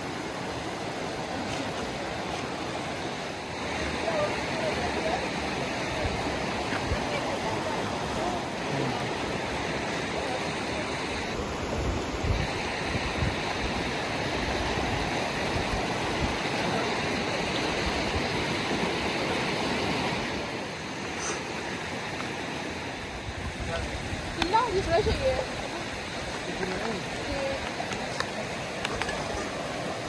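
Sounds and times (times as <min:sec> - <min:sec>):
small stream running: 0:00.0 - 0:30.0.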